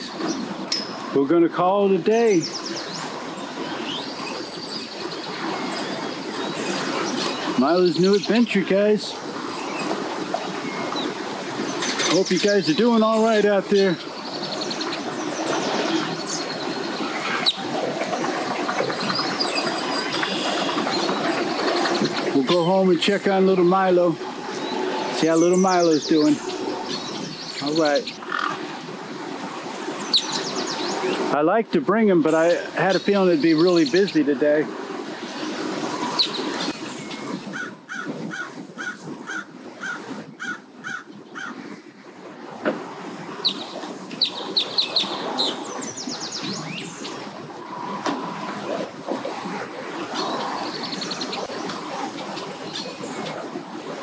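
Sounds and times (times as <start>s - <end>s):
birds chirping: 0.0s - 54.0s
steady background noise: 0.0s - 54.0s.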